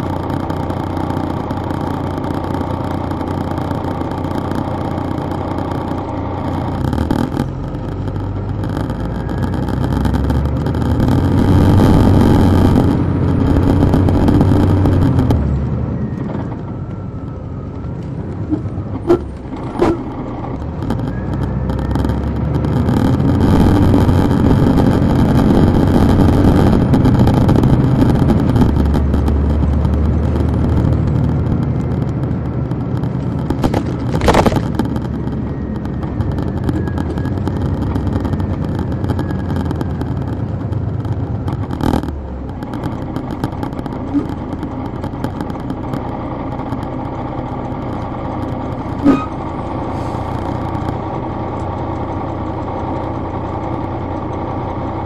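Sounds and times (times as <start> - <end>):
bus diesel engine accelerating: 0.0 - 55.0
sharp clicks: 0.0 - 55.0.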